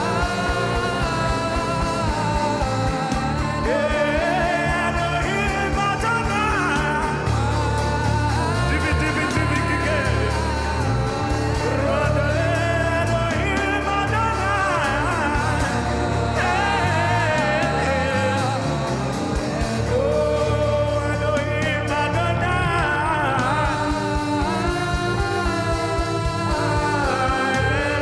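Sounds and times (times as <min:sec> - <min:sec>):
bass: 0:00.0 - 0:28.0
keyboard: 0:00.0 - 0:28.0
person singing gospel: 0:00.0 - 0:28.0.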